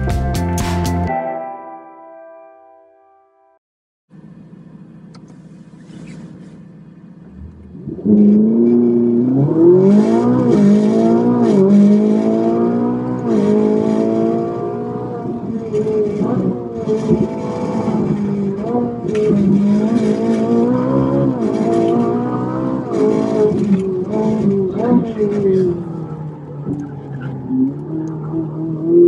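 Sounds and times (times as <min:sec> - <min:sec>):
car engine revving: 0:04.2 - 0:29.0.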